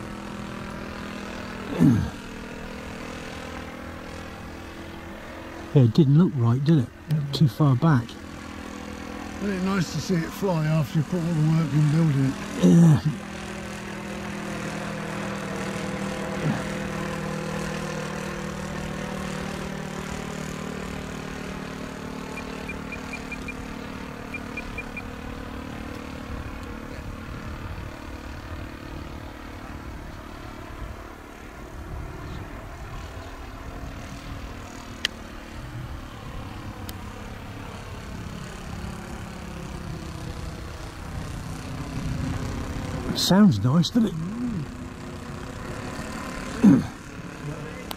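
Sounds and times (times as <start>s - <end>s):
model airplane engine droning: 0.0s - 47.9s.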